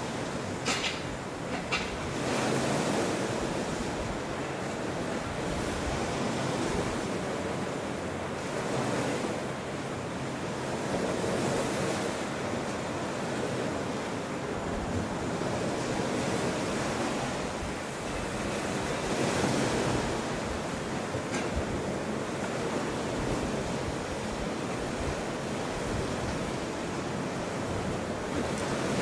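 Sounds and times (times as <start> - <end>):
ocean waves washing: 0.0 - 29.0.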